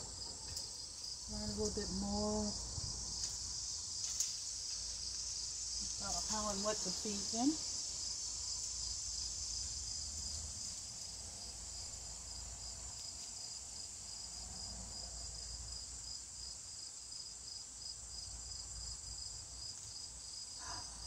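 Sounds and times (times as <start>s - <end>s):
insect chorus buzzing and chirping: 0.0s - 21.0s.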